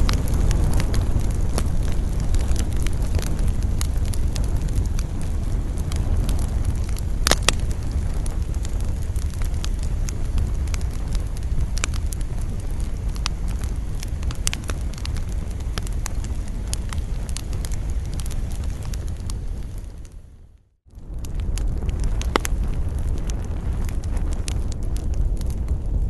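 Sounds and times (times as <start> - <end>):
campfire crackling and popping: 0.0 - 26.0
low rumble of wind: 0.0 - 26.0.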